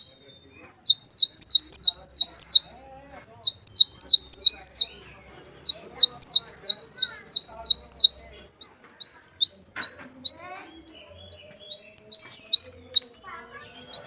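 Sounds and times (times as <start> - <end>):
tit bird singing sharp notes: 0.0 - 14.0.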